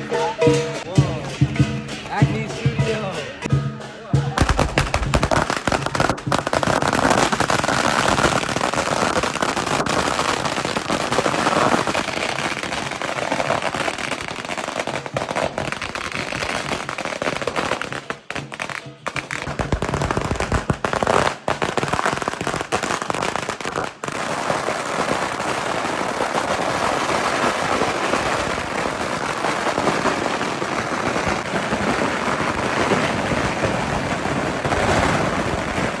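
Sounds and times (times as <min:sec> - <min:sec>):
firecrackers popping: 0:00.0 - 0:36.0.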